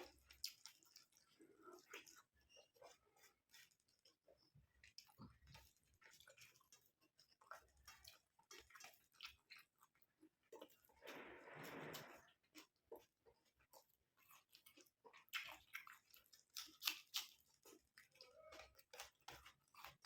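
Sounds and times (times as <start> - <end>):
close-miked chewing: 0.0 - 20.0.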